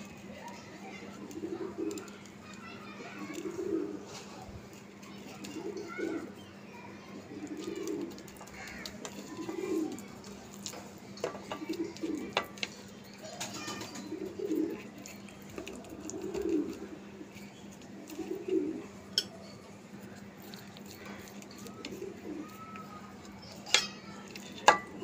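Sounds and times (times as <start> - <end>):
pigeon cooing: 0.0 - 6.4, 7.0 - 25.0.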